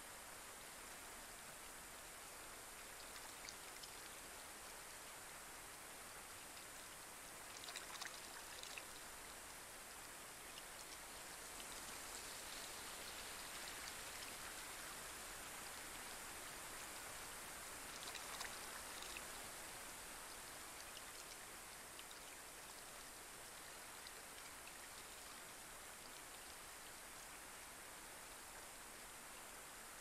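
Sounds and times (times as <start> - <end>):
light rain on a pond: 0.0 - 30.0.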